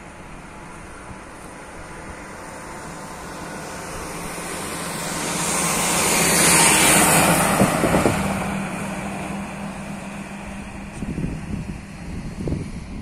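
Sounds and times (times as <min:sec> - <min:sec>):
vehicle driving past: 0:00.6 - 0:13.0.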